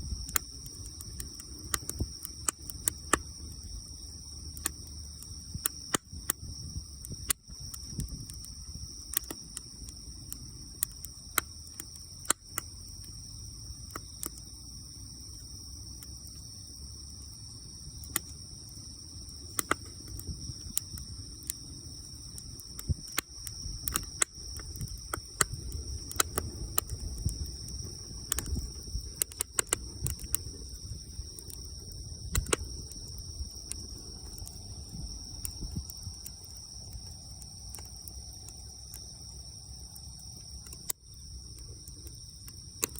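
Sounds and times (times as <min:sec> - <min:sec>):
wood fire crackling and popping: 0:00.0 - 0:14.5, 0:18.0 - 0:39.2, 0:39.9 - 0:42.9
insects trilling: 0:00.0 - 0:42.9.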